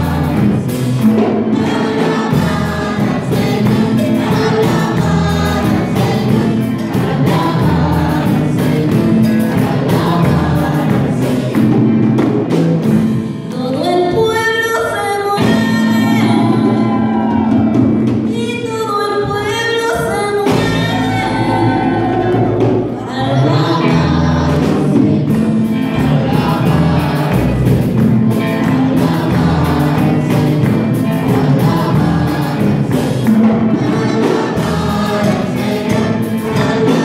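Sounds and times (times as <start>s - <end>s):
women singing gospel song: 0.0s - 11.9s, 13.5s - 17.7s, 18.6s - 37.0s
amplified accompaniment: 0.0s - 14.3s, 20.4s - 37.0s.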